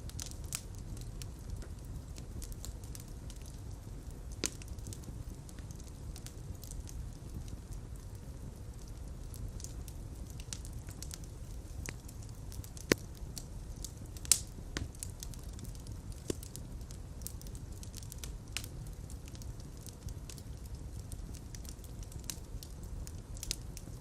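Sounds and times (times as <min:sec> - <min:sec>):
fire pops and snaps: 0:00.0 - 0:24.0
low rumble of flames: 0:00.0 - 0:24.0.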